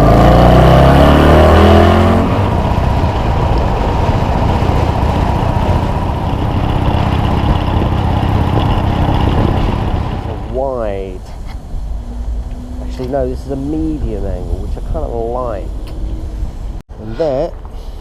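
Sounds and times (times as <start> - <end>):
motorcycle engine rumble: 0.0 - 18.0
road and wind noise: 0.0 - 18.0.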